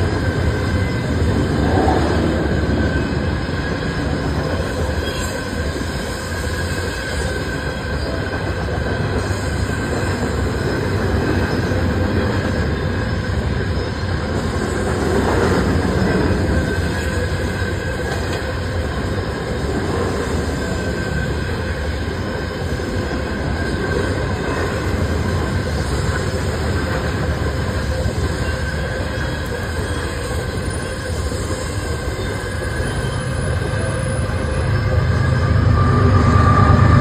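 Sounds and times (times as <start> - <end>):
diesel locomotive passing: 0.0 - 37.0
freight train rumbling: 0.0 - 37.0
faint wheel squeal: 0.1 - 14.9, 15.5 - 37.0.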